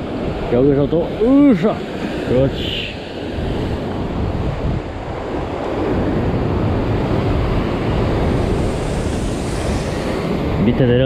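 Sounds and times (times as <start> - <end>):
ocean surf breaking on rock: 0.0 - 11.0
wind buffeting microphone: 0.0 - 11.0.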